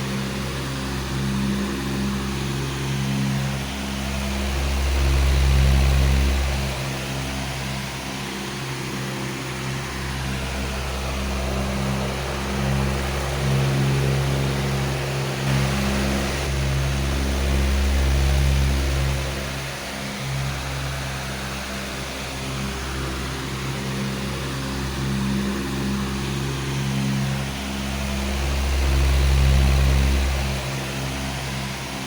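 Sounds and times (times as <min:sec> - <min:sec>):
electric fan whooshing and humming: 0:00.0 - 0:32.0.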